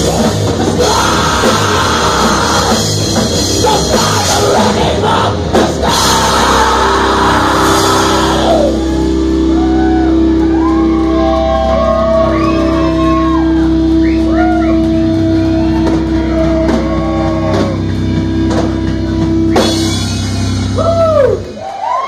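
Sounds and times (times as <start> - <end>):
rock band playing heavy music: 0.0 - 22.0.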